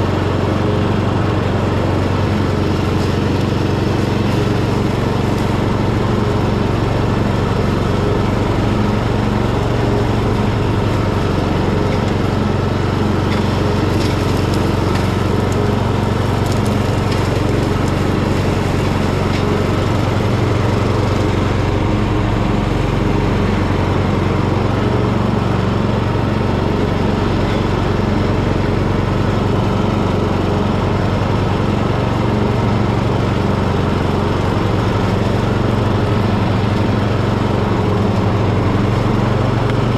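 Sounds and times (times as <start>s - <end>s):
ride-on mower engine humming: 0.0s - 39.9s.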